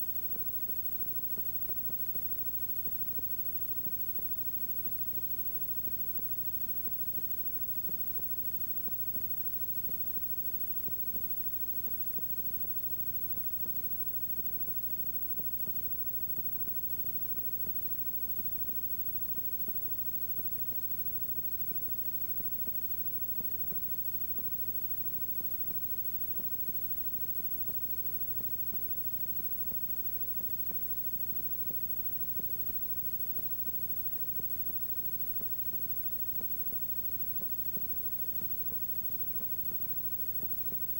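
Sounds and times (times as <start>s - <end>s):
tape hiss: 0.0s - 40.9s.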